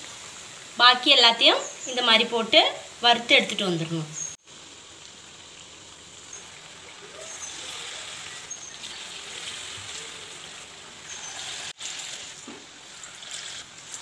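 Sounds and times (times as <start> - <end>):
oil sizzling and crackling: 0.0 - 14.0.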